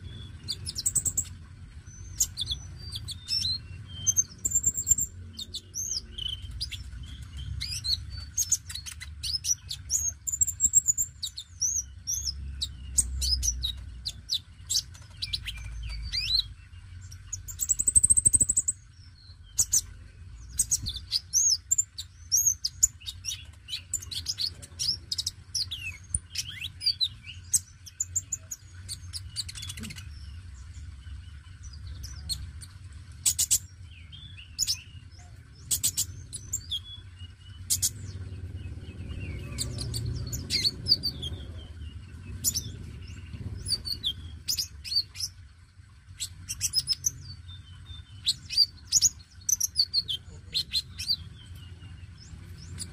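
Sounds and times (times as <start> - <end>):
bird singing chirps and whistles: 0.0 - 30.3, 33.2 - 45.4, 46.2 - 52.9.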